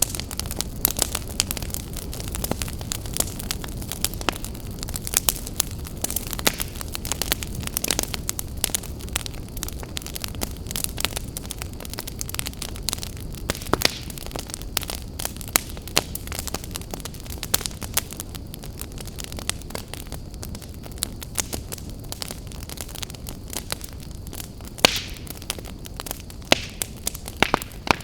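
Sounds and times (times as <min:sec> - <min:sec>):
fire crackling and popping: 0:00.0 - 0:28.0
fire flames rumbling: 0:00.0 - 0:28.0.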